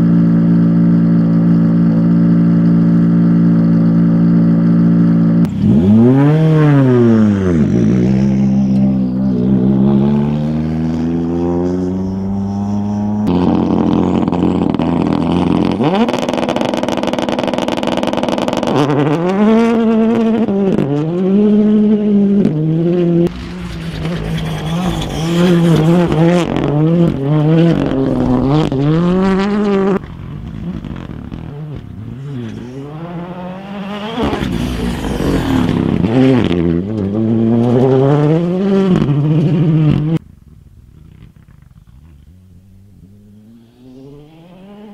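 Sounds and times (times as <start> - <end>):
rally car engine revving hard: 0.0 - 40.2.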